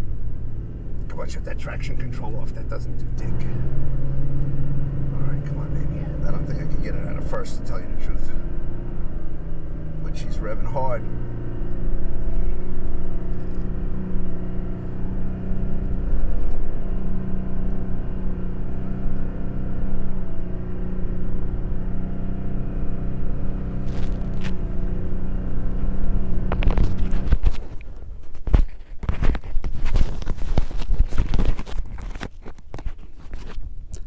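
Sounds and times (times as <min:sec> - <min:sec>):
truck engine straining at high revs: 0:00.0 - 0:27.9.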